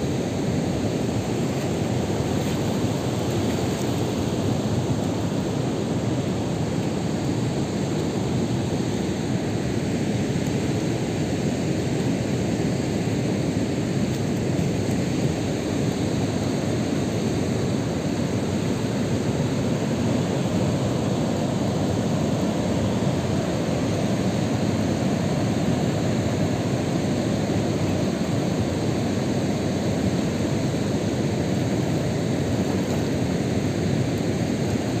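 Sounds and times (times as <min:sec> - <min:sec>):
water rushing over spillway: 0:00.0 - 0:35.0.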